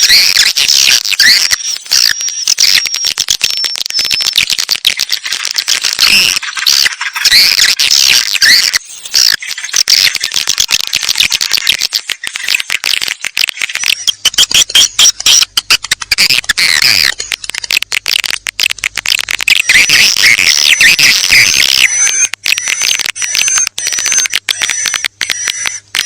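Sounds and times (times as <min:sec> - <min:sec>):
swiftlets twittering and chirping: 0:00.0 - 0:18.3, 0:18.9 - 0:26.0.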